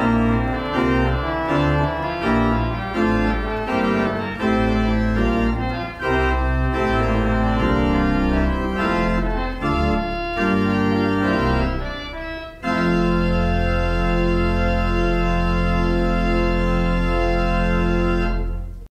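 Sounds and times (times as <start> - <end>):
organ chords: 0.0 - 18.9.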